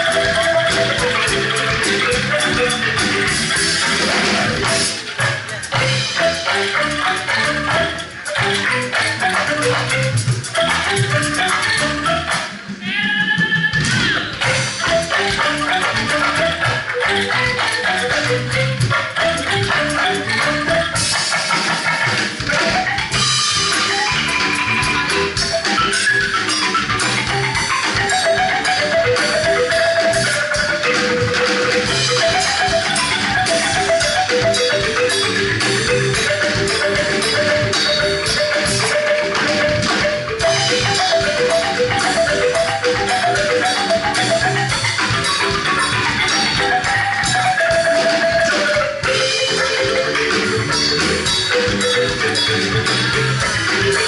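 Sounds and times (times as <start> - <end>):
bamboo percussion melody: 0.0 - 54.0
drums: 0.0 - 54.0.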